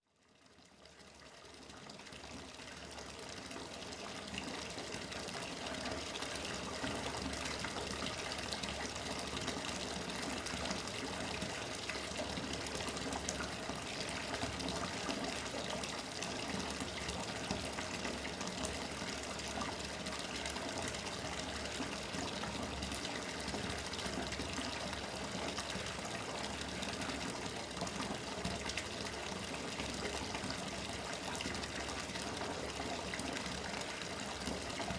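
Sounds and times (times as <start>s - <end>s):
tap water gushing into tub: 0.2s - 34.9s.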